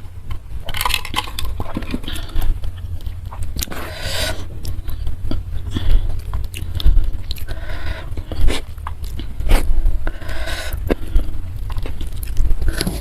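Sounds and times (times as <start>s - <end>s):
mouth clicks: 0.0s - 13.0s
person chewing food: 0.0s - 13.0s
steady low hum: 0.0s - 13.0s.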